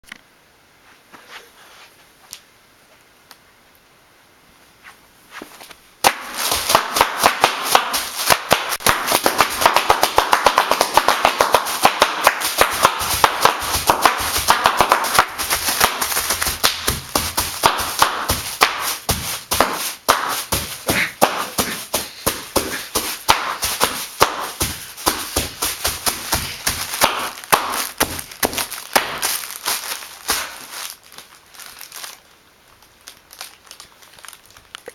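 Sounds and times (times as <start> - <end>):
bubble wrap popping: 6.0 - 34.9.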